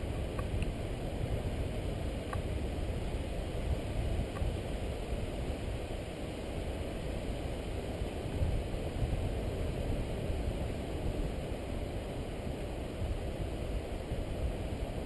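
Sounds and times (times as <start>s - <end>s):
wind buffeting microphone: 0.0s - 6.1s, 8.0s - 15.0s.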